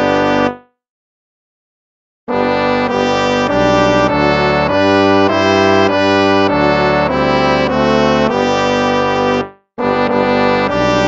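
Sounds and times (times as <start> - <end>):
instrumental hymn chords: 0.0 - 0.6, 2.3 - 11.0.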